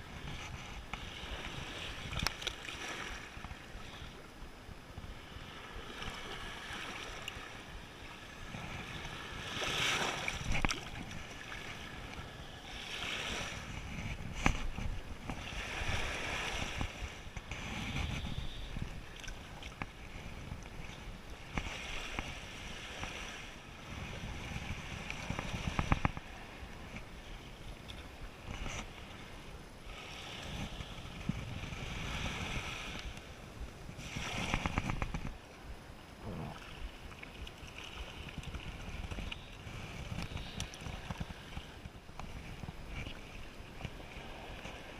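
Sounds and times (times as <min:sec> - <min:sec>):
wind buffeting the microphone: 0:00.0 - 0:04.0, 0:04.6 - 0:44.9
surf washing onto a beach: 0:04.7 - 0:44.9.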